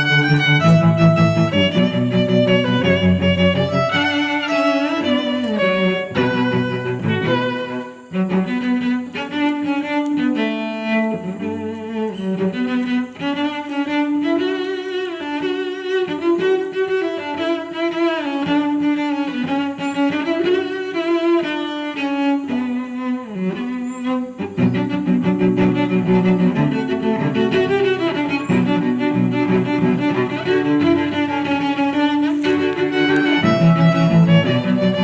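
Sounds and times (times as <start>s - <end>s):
bowed string instruments melody: 0.0s - 35.0s.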